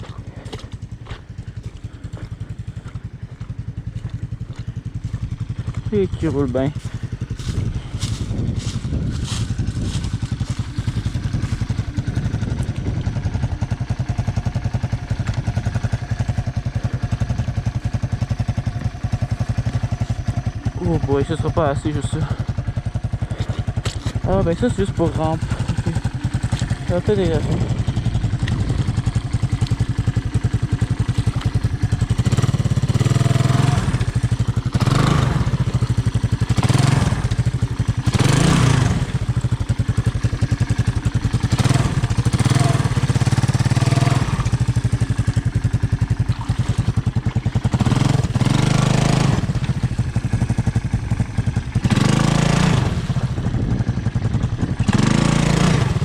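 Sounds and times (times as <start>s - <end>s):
small engine revving: 4.0s - 56.0s.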